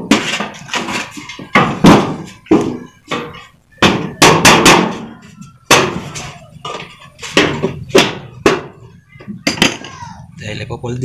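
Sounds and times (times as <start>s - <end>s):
sheet metal gutter knocks: 0.0s - 10.0s.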